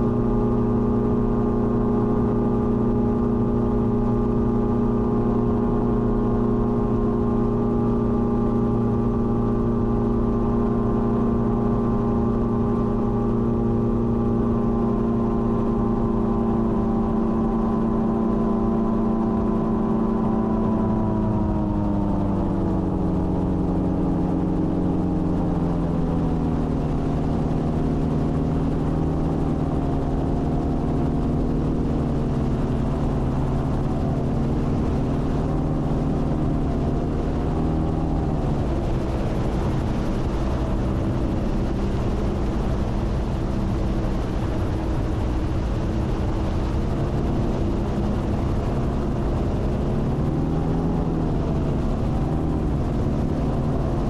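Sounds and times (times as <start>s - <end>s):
gyroplane engine and propeller: 0.0s - 54.0s.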